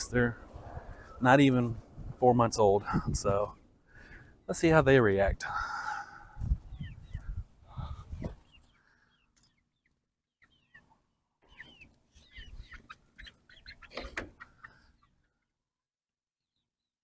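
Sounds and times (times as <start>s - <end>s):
young chickens chirping and clucking: 0.0s - 15.6s.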